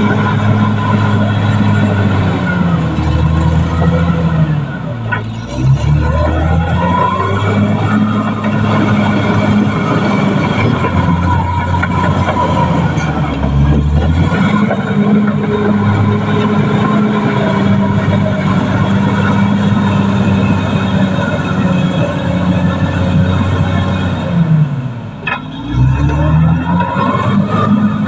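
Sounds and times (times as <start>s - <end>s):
bulldozer diesel engine under load: 0.0s - 28.0s.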